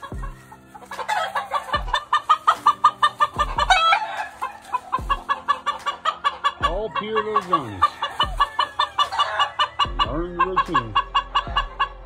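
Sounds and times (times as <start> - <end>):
background music with deep bass: 0.0 - 12.0
chickens clucking: 0.0 - 12.0.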